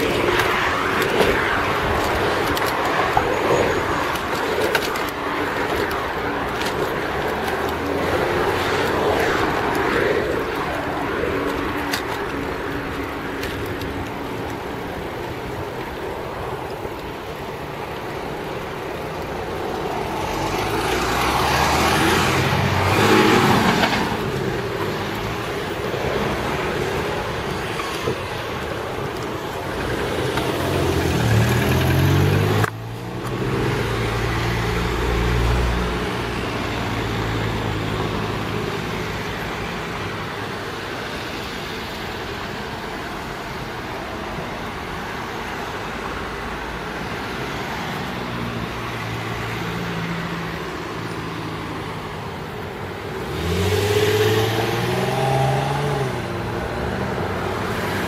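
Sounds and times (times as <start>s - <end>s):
hum of traffic: 0.0s - 58.0s
vehicles passing close by: 0.0s - 58.0s.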